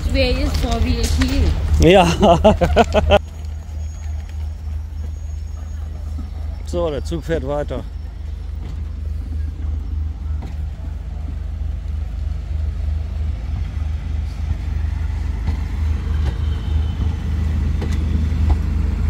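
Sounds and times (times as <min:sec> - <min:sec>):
train carriages rumbling past: 0:00.0 - 0:19.0.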